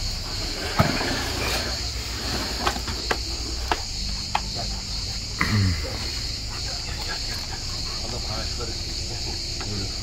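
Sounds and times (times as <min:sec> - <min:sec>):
insect chorus: 0:00.0 - 0:10.0.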